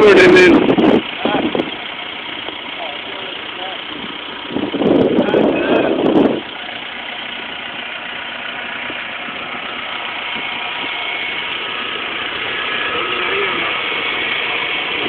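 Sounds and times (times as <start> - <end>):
pickup engine idling: 0.0 - 15.0.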